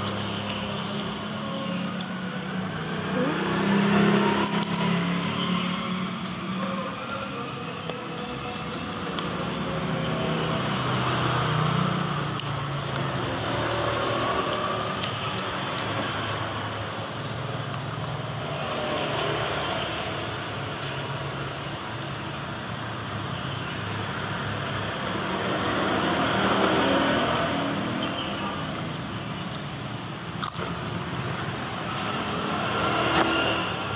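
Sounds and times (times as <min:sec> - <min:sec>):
road traffic going by: 0:00.0 - 0:33.9.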